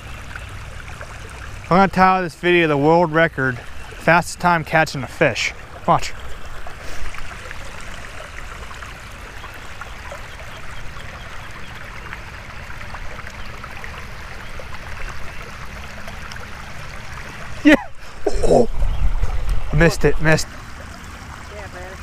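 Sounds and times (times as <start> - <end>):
water rushing over spillway: 0.0 - 22.0.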